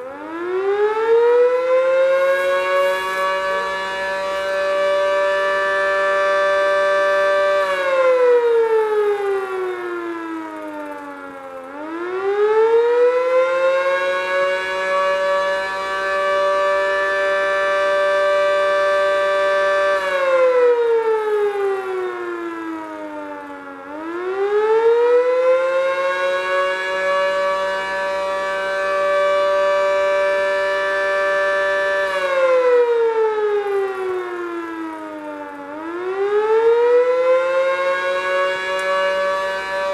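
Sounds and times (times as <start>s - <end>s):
fire siren wailing: 0.0s - 39.9s.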